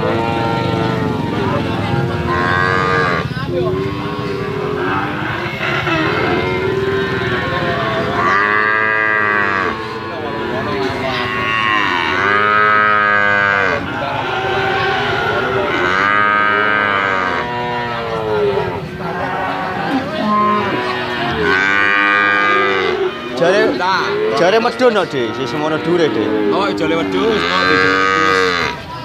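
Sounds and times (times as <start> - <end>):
cattle mooing: 0.0 - 29.0.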